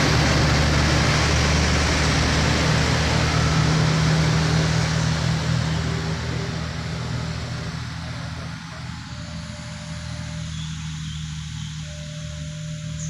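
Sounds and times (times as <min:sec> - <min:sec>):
tyre and road noise: 0:00.0 - 0:11.6
heavy vehicle engine hum: 0:00.0 - 0:13.0.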